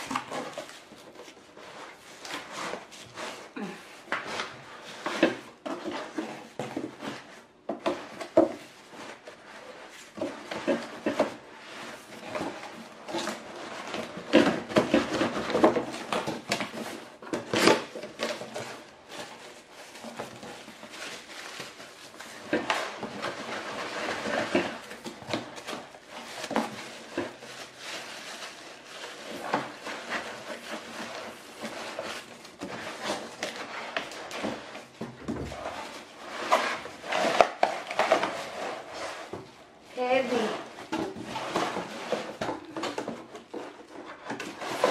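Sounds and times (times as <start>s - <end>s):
cardboard rubbing and creasing: 0.0s - 44.9s.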